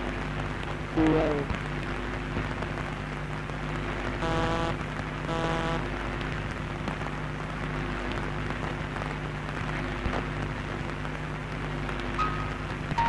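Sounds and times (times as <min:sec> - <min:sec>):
low electrical hum: 0:00.0 - 0:13.0
radio static crackling hiss: 0:00.0 - 0:13.0.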